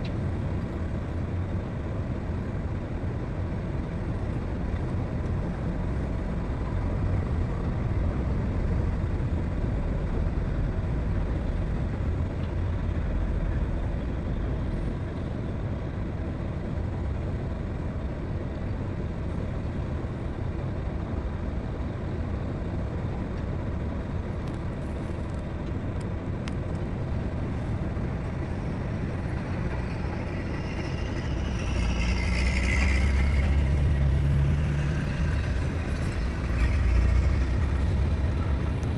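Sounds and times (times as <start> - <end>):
heavy diesel machinery rumbling: 0.0 - 38.9.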